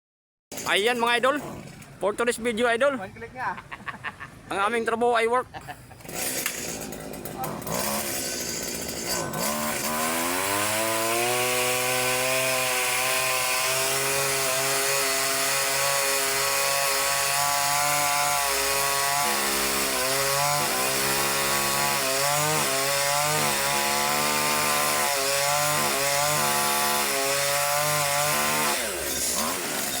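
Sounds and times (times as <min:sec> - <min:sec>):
chainsaw engine revving: 0:00.5 - 0:02.0, 0:05.8 - 0:30.0.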